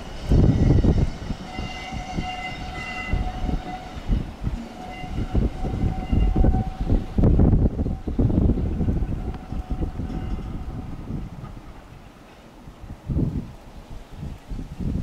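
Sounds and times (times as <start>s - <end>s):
diesel train pulling away: 0.0s - 14.6s.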